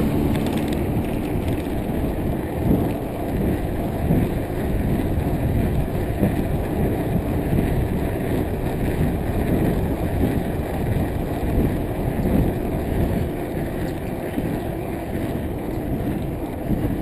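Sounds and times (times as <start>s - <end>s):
bicycle tyre rumble on asphalt: 0.0s - 17.0s
wind on microphone: 0.0s - 17.0s.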